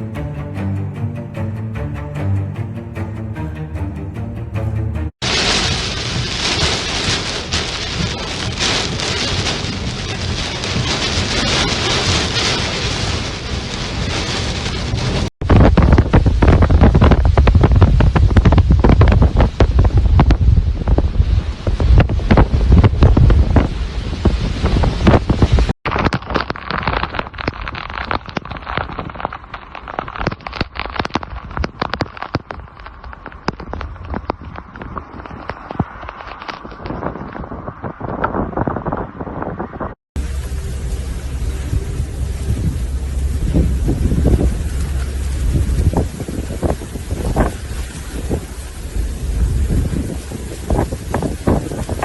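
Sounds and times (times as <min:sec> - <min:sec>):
heavy rain pouring: 0:05.1 - 0:39.0, 0:39.8 - 0:52.0
wind buffeting microphone: 0:05.2 - 0:25.8, 0:30.2 - 0:52.0.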